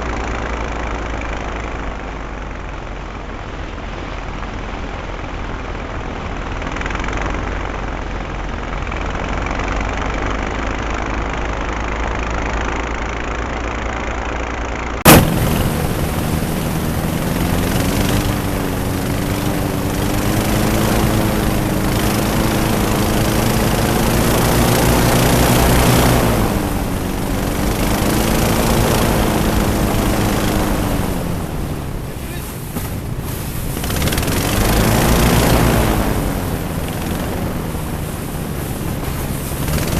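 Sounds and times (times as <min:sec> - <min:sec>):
airboat engines and propellers: 0:00.0 - 0:39.9.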